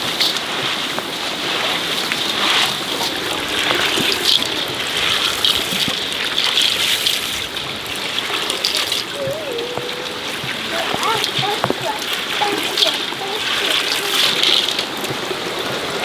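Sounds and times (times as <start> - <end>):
running water: 0.0 - 16.0
steady rain: 0.0 - 16.0
water drips and splashes: 0.0 - 16.0.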